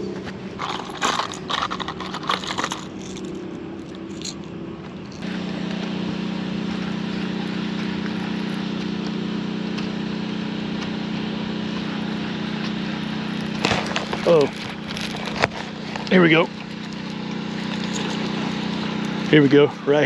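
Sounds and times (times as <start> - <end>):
small motor humming: 0.0 - 20.0.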